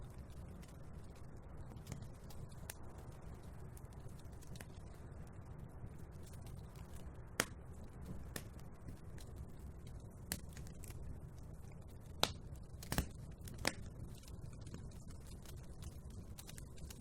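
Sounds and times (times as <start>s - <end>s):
fire rumbling in fireplace: 0.0s - 17.0s
wood fire crackling and popping: 0.0s - 17.0s.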